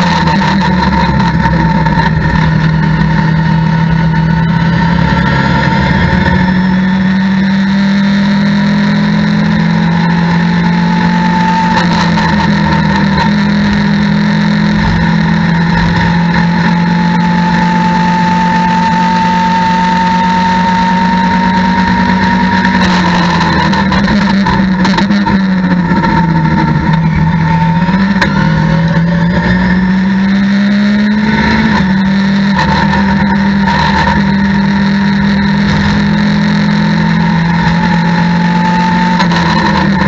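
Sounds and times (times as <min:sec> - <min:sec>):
race car engine at full throttle: 0:00.0 - 0:40.0.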